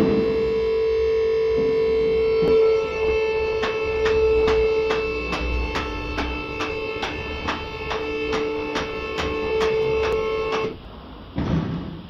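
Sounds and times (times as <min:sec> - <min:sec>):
car lift motor humming: 0:00.0 - 0:10.8.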